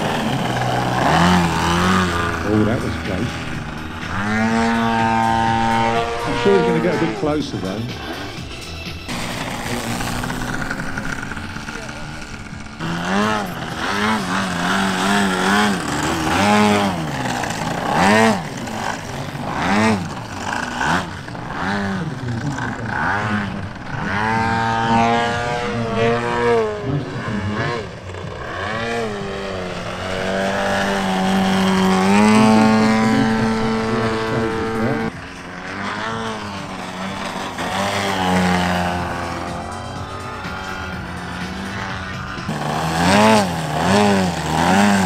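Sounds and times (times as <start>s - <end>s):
model plane engine revving: 0.0s - 45.0s.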